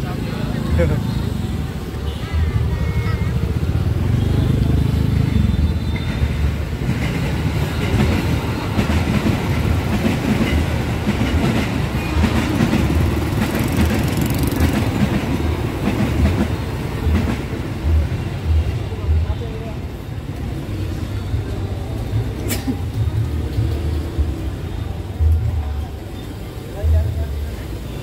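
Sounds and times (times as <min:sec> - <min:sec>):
train rumbling and clattering: 0:00.0 - 0:28.0.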